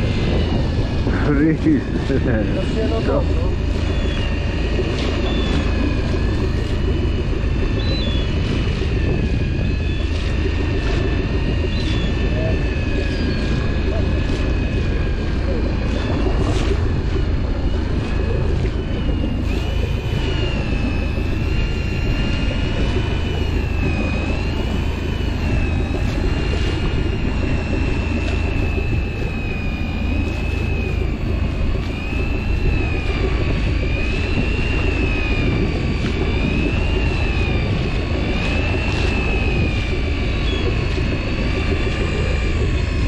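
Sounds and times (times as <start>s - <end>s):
boat rumble: 0.0s - 43.0s
fishing reel motor whining: 0.0s - 43.0s.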